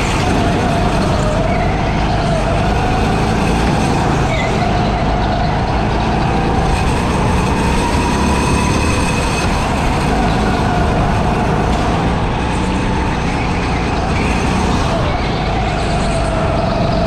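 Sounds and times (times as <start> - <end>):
go-kart engine running: 0.0 - 17.0.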